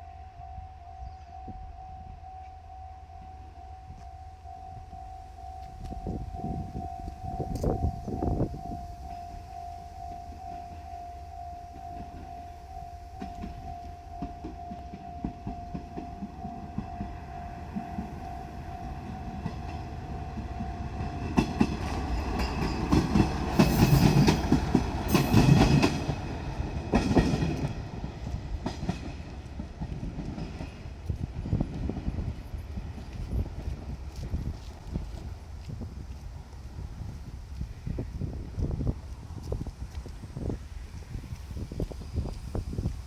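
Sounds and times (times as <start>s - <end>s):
wheels clicking over rail joints: 5.3s - 43.0s.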